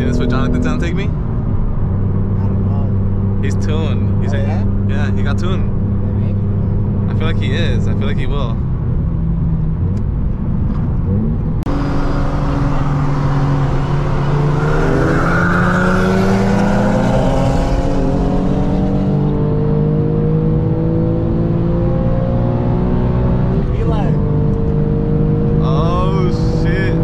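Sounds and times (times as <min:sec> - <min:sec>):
car engine accelerating from cabin: 0:00.0 - 0:27.0.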